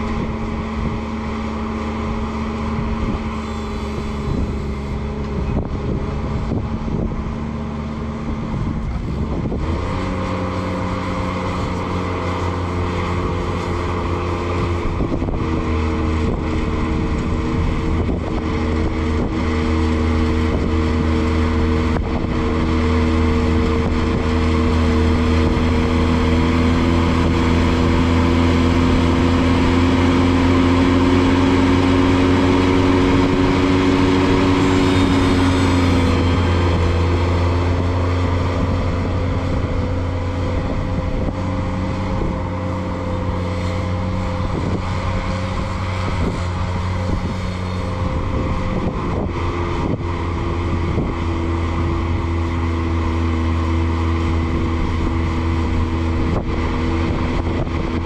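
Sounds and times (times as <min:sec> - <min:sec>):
tractor snowblower drone: 0:00.0 - 0:58.0.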